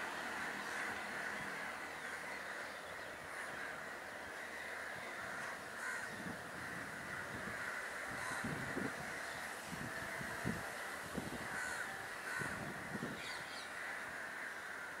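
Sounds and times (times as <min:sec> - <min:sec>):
outdoor background noise: 0:00.0 - 0:15.0
crows cawing: 0:00.1 - 0:15.0.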